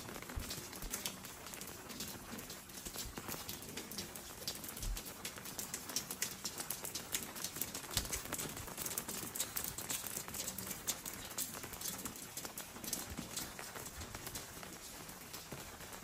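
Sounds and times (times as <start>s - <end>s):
rain dripping on wet stone: 0.0s - 16.0s.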